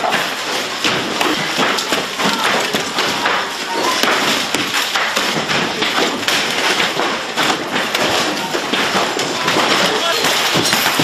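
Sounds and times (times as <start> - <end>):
noisy commotion: 0.0 - 11.0
thuds of things breaking: 0.0 - 11.0.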